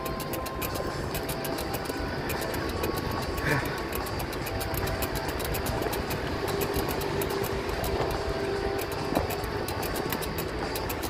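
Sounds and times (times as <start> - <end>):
wind and road rumble: 0.0 - 11.0.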